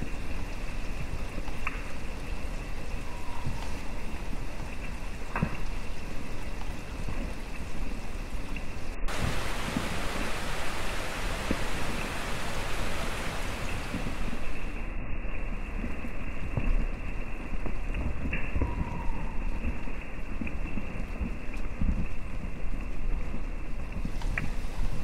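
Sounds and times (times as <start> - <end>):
rain falling on leaves: 0.0 - 14.9, 15.6 - 25.0.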